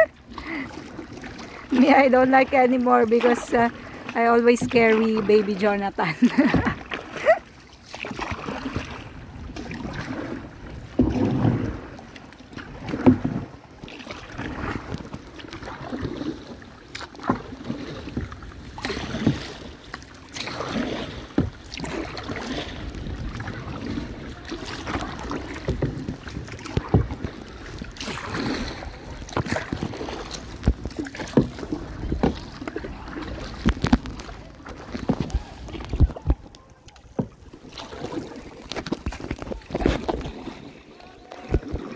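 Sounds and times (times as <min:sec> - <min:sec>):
paddle splashing in water: 0:00.0 - 0:41.9
water dripping and sloshing: 0:00.0 - 0:41.9.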